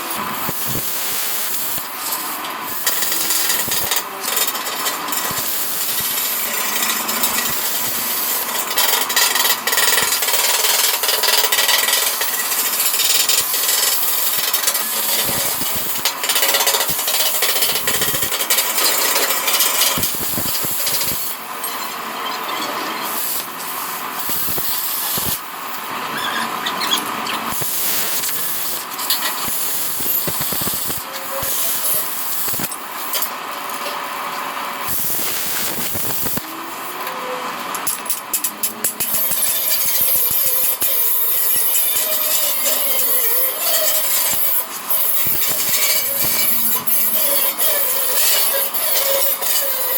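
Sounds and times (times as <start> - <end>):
plasma cutter hissing: 0.2 - 21.4, 23.0 - 25.5, 27.5 - 33.2, 34.8 - 36.5, 38.7 - 49.9.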